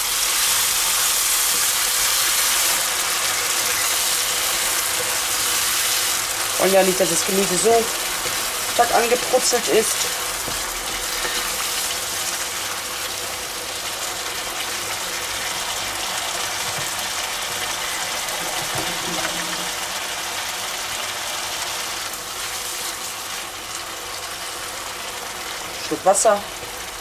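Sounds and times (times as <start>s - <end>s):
sauce sizzling in frying pan: 0.0s - 27.0s.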